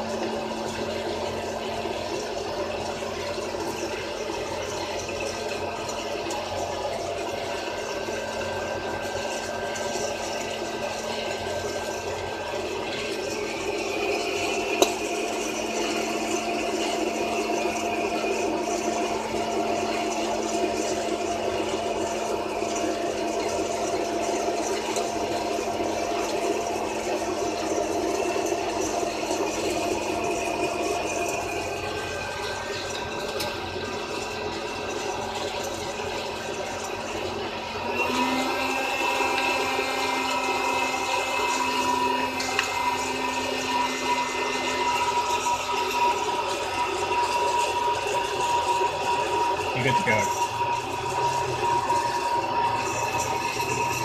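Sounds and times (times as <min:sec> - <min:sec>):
popcorn machine motor hum: 0:00.0 - 0:54.0.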